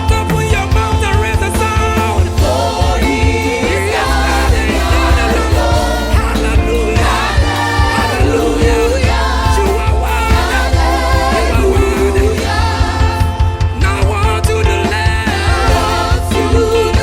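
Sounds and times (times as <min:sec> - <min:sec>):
band with bass and drums: 0:00.0 - 0:17.0
choir singing: 0:01.9 - 0:17.0.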